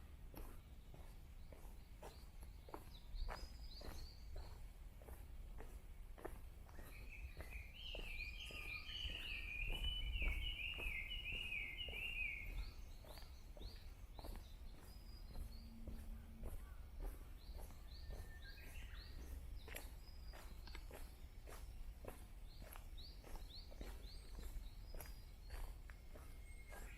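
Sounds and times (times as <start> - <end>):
footsteps on park path: 0.0 - 26.9
songbird singing: 0.0 - 26.9.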